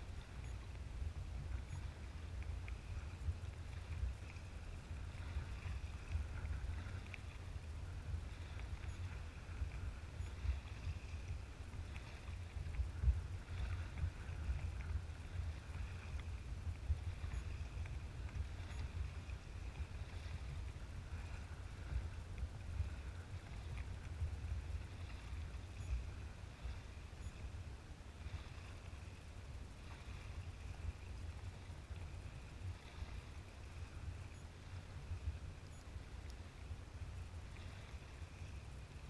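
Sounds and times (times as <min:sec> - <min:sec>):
constant low rumble: 0:00.0 - 0:39.0
paddle strokes: 0:00.0 - 0:39.0
water sloshing against hull: 0:00.0 - 0:39.0.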